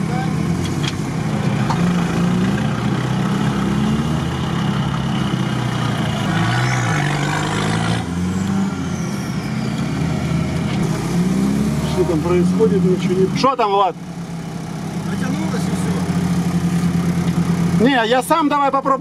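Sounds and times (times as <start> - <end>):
engine revving under load: 0.0 - 17.9.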